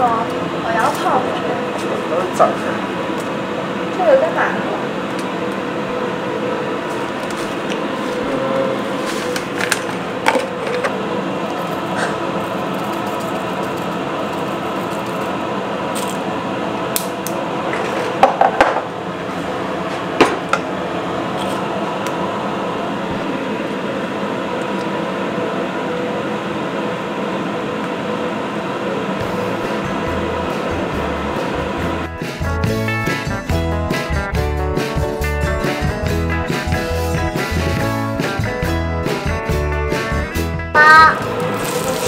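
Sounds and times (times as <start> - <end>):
kitchen hum: 0.0 - 32.5, 40.8 - 42.0.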